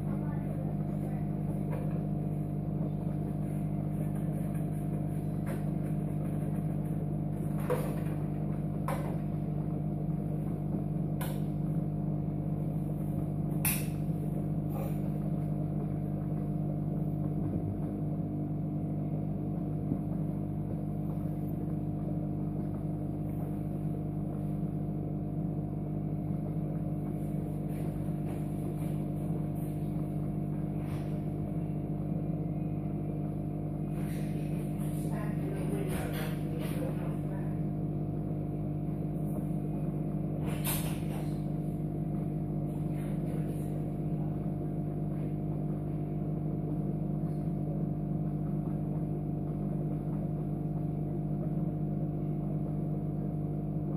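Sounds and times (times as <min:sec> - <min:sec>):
electric hum: 0:00.0 - 0:53.9.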